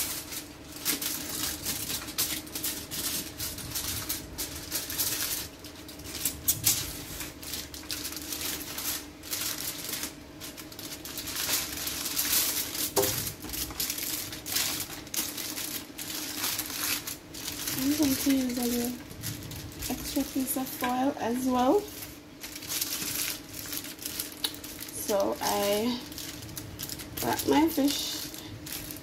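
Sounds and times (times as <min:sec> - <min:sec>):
aluminium foil crinkling: 0:00.0 - 0:29.0
faint hum: 0:00.0 - 0:29.0.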